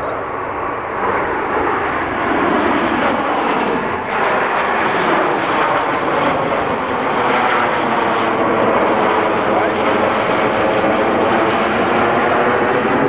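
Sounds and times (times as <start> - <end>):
jet aircraft rushing: 0.0 - 13.0.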